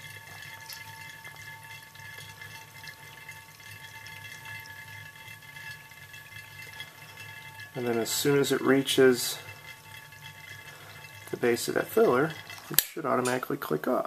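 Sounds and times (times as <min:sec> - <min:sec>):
background hum: 0:00.0 - 0:13.8
wine trickling into bottle: 0:00.0 - 0:14.0.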